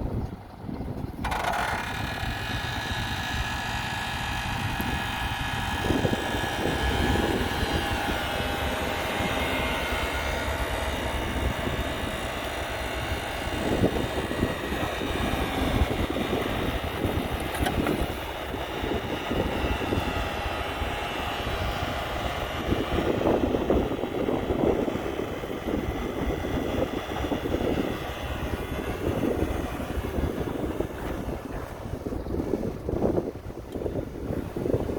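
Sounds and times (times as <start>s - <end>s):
high mechanical whine: 0.0s - 33.2s
diesel machinery engine rumble: 0.0s - 34.9s.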